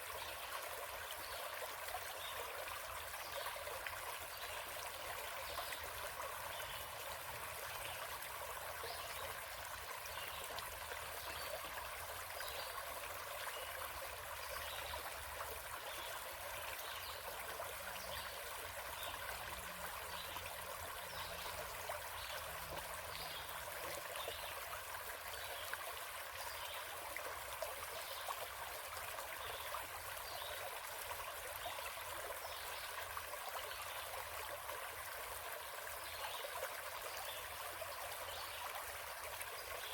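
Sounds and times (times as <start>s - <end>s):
forest stream trickling: 0.0s - 39.9s.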